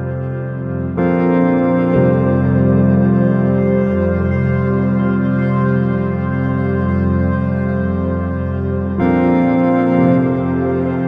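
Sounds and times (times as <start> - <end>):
slow ambient keyboard music: 0.0 - 11.0.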